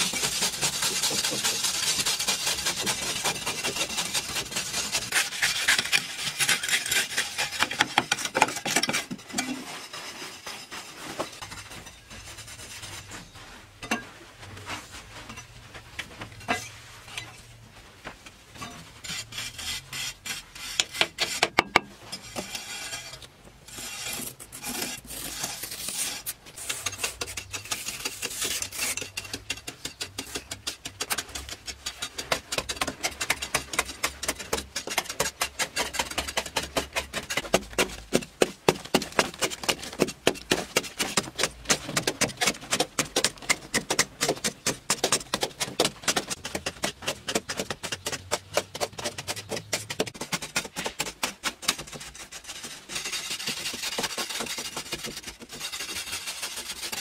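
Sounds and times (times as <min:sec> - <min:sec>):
metal tool scraping clay wall: 0:00.0 - 0:14.1, 0:18.6 - 0:57.0.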